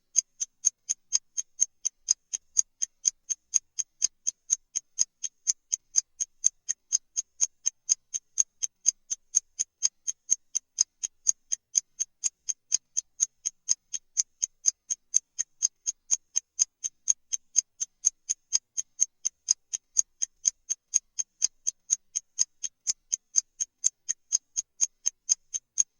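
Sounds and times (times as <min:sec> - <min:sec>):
clock ticking: 0:00.0 - 0:25.9.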